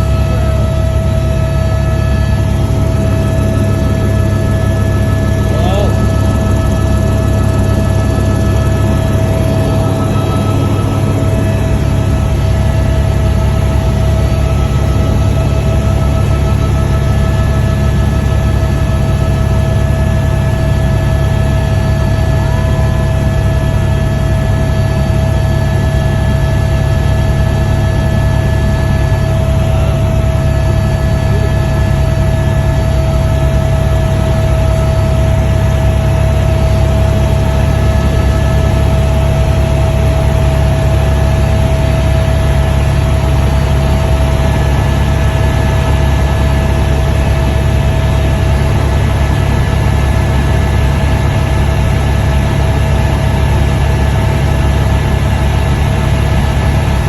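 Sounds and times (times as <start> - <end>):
helicopter droning: 0.0 - 57.0.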